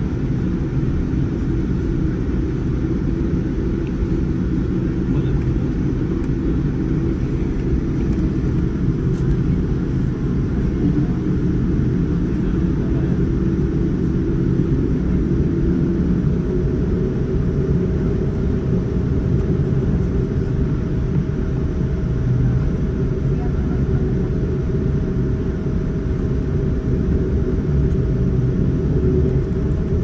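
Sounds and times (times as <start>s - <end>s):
airliner cabin engine roar: 0.0s - 30.0s.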